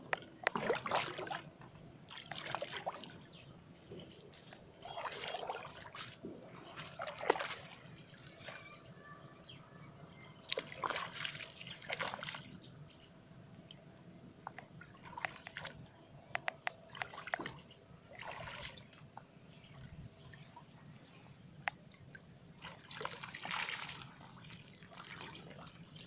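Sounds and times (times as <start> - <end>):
water splashing and sloshing: 0.0 - 8.9, 10.4 - 26.0.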